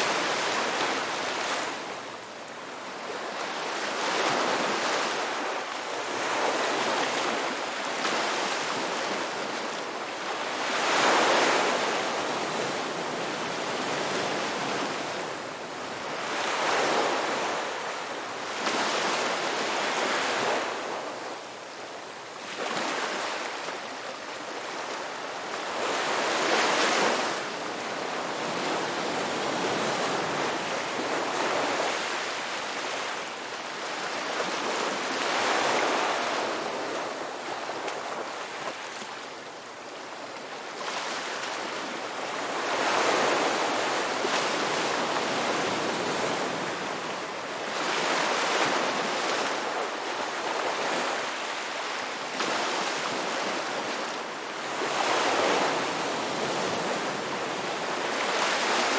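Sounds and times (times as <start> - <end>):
ocean waves breaking on beach: 0.0 - 58.9.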